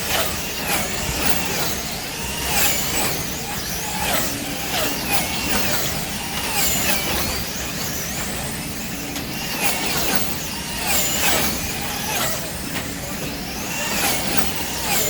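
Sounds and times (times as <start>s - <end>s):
electric race car motors whining: 0.0s - 15.0s.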